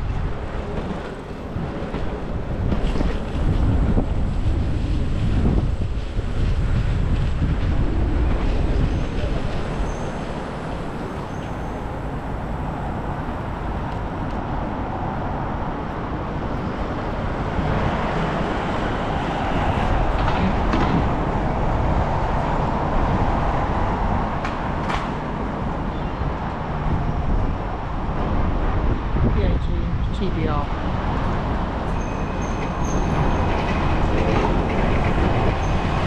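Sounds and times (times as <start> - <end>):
city street traffic: 0.0 - 36.0
wind rumbling over microphone: 0.0 - 36.0.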